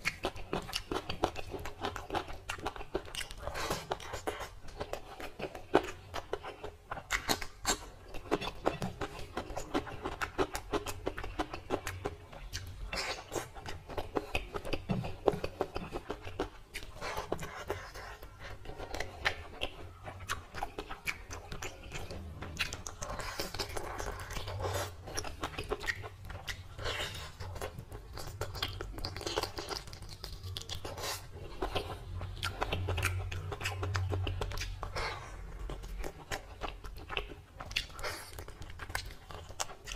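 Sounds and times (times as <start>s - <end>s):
chewing: 0.0s - 39.9s
fingers squishing rice and curry: 0.0s - 39.9s.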